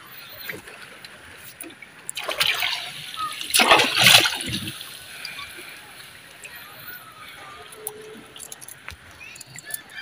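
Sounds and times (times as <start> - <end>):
water splashing and sloshing: 0.2 - 10.0.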